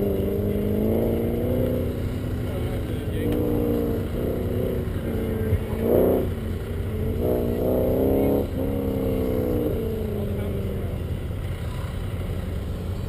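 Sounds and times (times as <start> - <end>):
pickup truck engine revving: 0.0 - 12.8.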